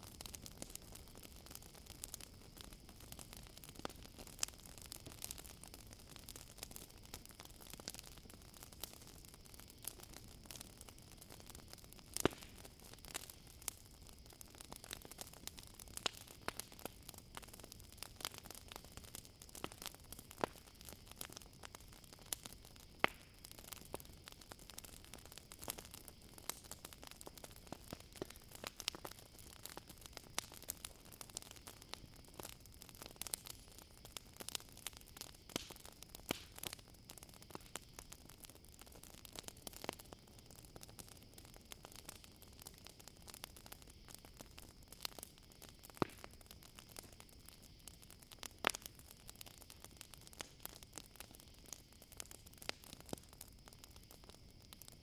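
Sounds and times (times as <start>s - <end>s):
campfire crackling and popping: 0.0s - 55.0s
crickets chirping: 6.4s - 55.0s.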